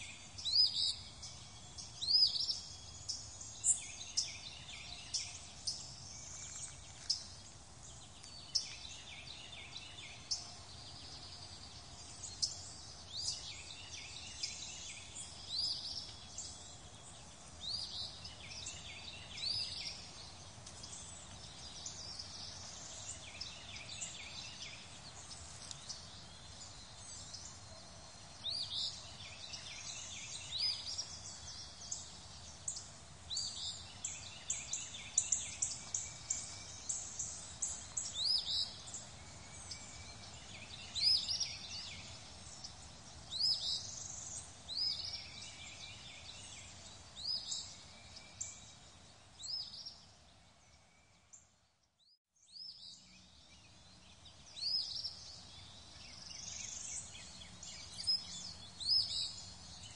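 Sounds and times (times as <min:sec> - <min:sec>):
birds chirping: 0:00.0 - 0:51.4, 0:52.6 - 0:59.9
outdoor background hiss: 0:00.0 - 0:59.9.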